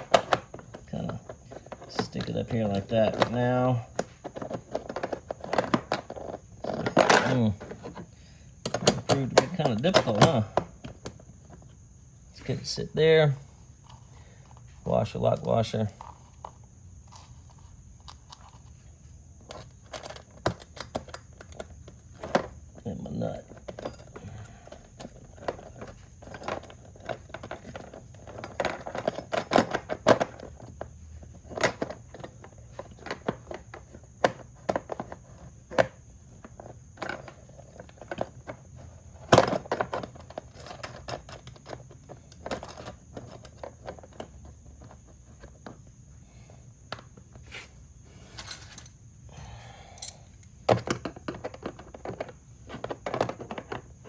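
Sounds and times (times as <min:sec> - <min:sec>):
metal hardware clinking: 0:00.0 - 0:11.3, 0:19.5 - 0:45.8, 0:46.9 - 0:53.8.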